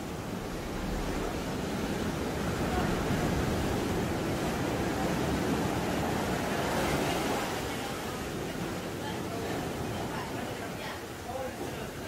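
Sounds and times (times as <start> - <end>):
ocean surf breaking on sand: 0.0 - 12.0.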